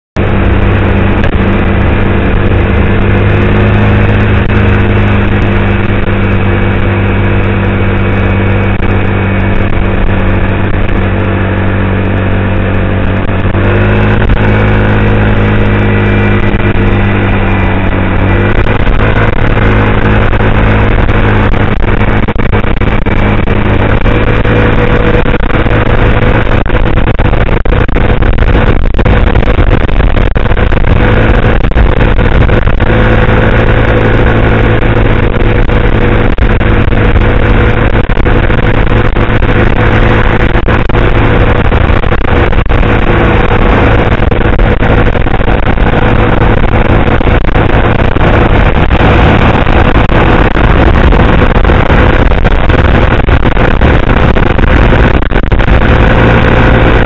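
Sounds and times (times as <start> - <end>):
scooter engine running steadily: 0.2 - 57.0.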